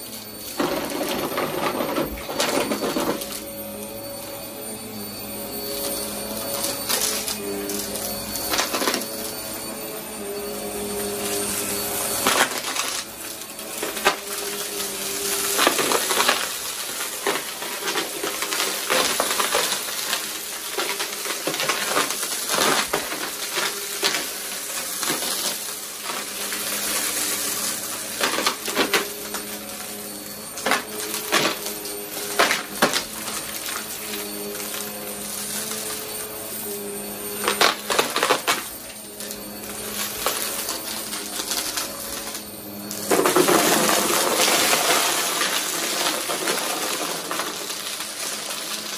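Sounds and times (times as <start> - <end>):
debris clicking and rattling in vacuum: 0.0 - 48.9
vacuum cleaner motor drone: 0.0 - 48.9.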